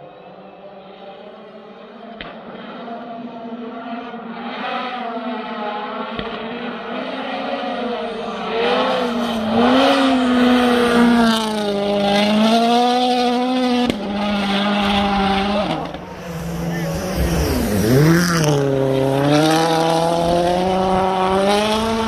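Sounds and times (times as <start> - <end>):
rally car engine passing: 0.0 - 22.0.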